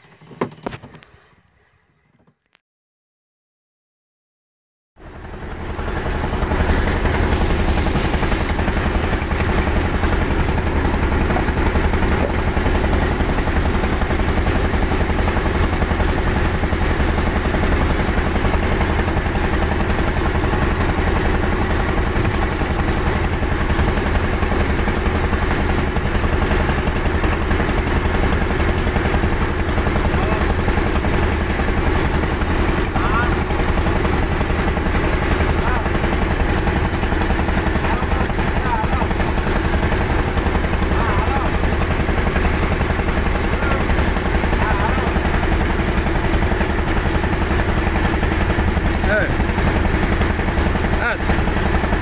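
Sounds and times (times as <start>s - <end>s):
boat engine humming: 5.0s - 52.0s.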